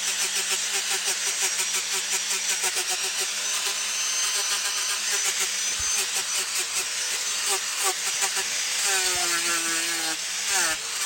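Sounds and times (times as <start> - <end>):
tool grinding wood: 0.0 - 11.0.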